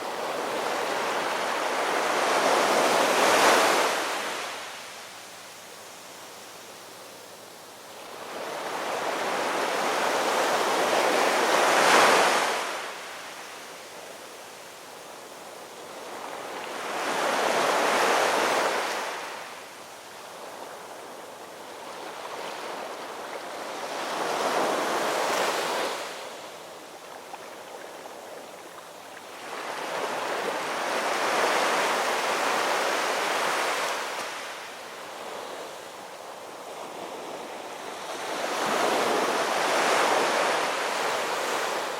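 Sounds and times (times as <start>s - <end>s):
ocean waves breaking on shore: 0.0s - 5.2s, 8.0s - 41.9s.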